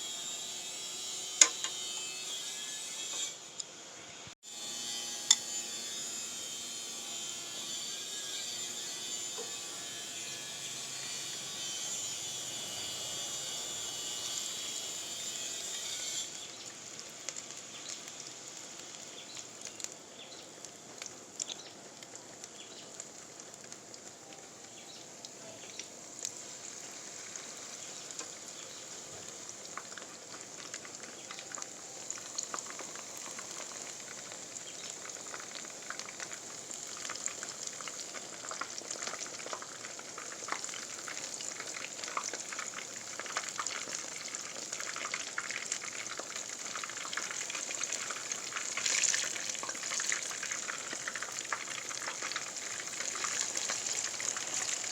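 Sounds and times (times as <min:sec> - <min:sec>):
food deep-frying in oil: 0:00.0 - 0:03.4, 0:04.4 - 0:54.9.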